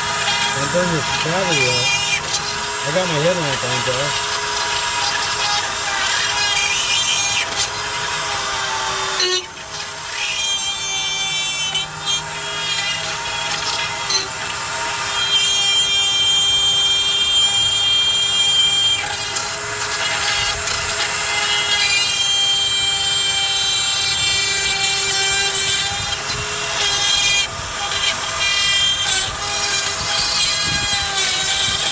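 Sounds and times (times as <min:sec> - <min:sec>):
power tool motor whining: 0:00.0 - 0:31.9.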